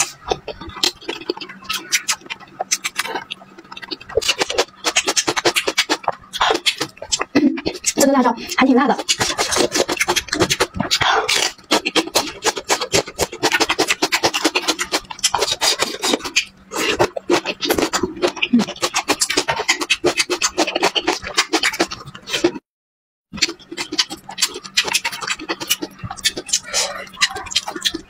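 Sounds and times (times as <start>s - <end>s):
chewing crisp crunches: 0.0s - 22.6s, 23.4s - 28.0s
wet mouth clicks: 0.0s - 22.6s, 23.4s - 28.0s.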